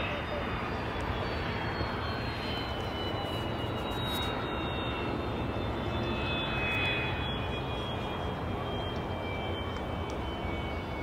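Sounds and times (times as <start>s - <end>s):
airliner engines running: 0.0s - 11.0s.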